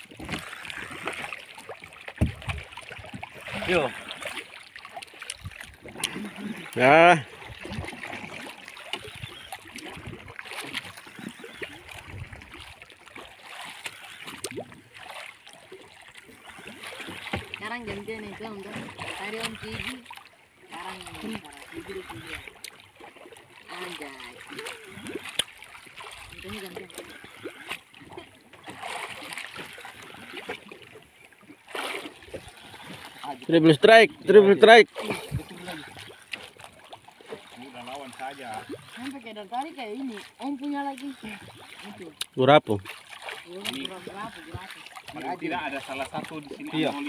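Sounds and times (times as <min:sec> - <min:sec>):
water lapping against boat hull: 0:00.0 - 0:47.0.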